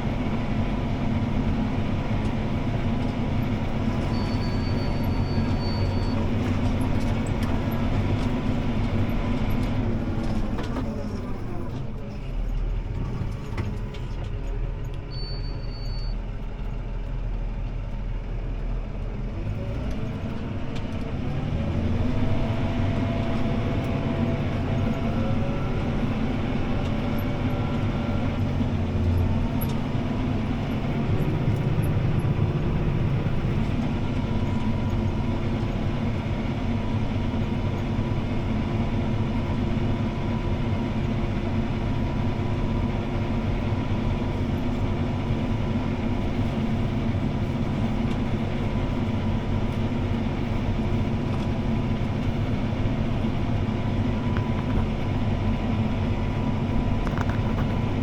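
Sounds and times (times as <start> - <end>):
tractor diesel engine from cab: 0.0 - 58.0.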